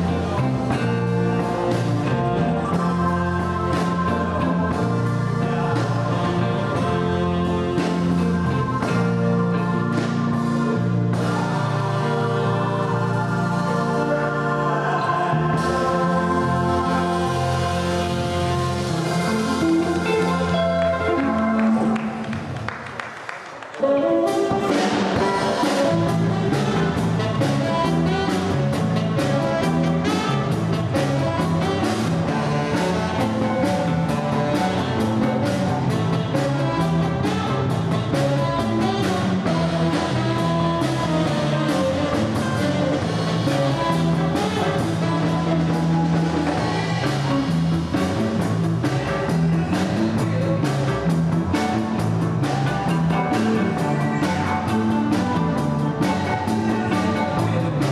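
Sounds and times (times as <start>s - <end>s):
steady drum beat: 0.0s - 13.9s, 24.3s - 57.9s
live jazz band playing: 0.0s - 22.8s, 23.6s - 57.9s.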